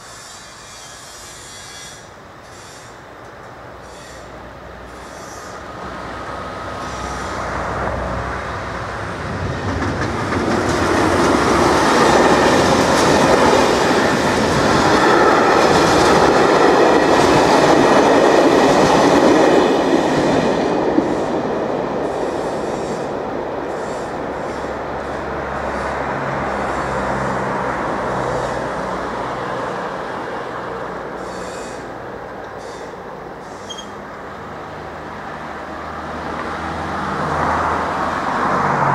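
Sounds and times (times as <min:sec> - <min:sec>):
train passing: 0:00.0 - 0:38.9.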